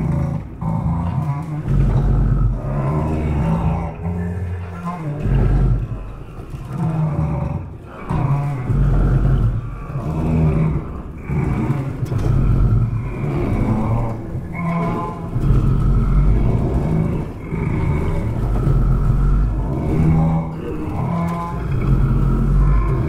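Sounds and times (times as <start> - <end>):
deep instrument roar: 0.0 - 23.0.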